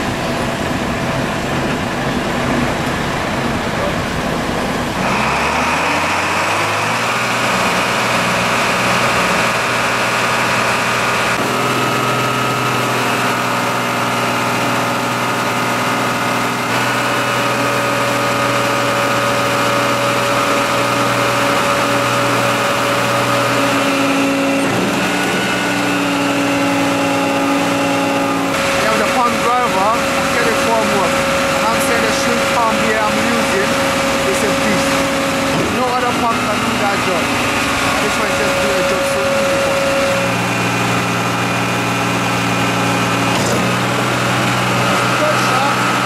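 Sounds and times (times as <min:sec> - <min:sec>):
diesel engine at raised revs: 0:00.0 - 0:46.0.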